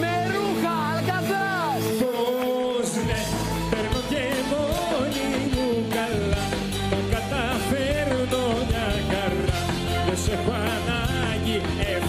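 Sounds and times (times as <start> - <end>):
electric guitar: 0.0 - 12.0
keyboard: 0.0 - 12.0
man singing: 0.0 - 12.0.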